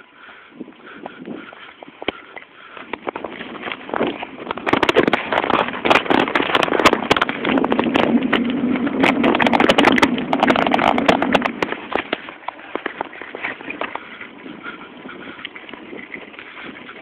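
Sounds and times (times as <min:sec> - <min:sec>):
bicycle rattling over dirt trail: 0:00.0 - 0:17.0
steady low hum: 0:00.0 - 0:17.0
tyres crunching on dirt: 0:01.0 - 0:17.0.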